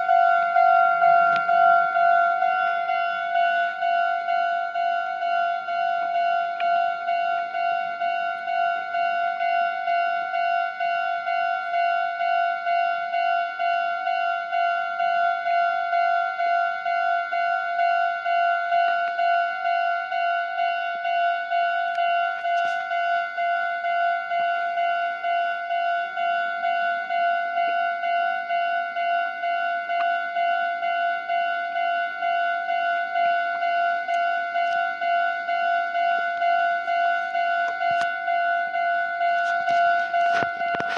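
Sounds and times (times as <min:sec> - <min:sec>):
level crossing alarm pulsing: 0:00.0 - 0:40.9.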